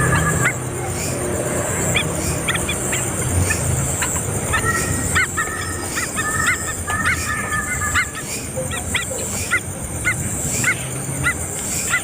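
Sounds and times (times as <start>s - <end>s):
birds chirping calls: 0.0s - 12.0s.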